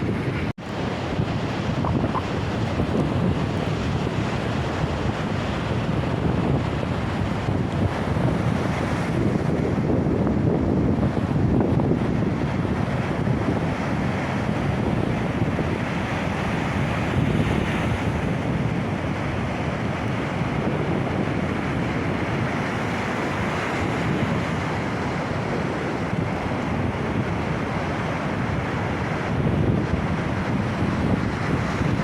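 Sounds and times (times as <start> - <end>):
surf washing onto shore: 0.0 - 32.0
wind buffeting microphone: 0.0 - 32.0.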